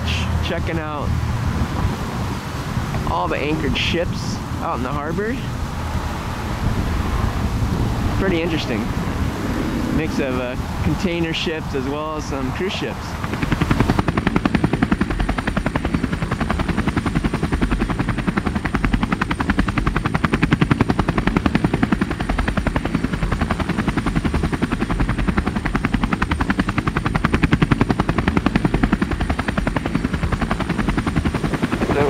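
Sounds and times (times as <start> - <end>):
helicopter rotor beating: 0.0 - 32.0.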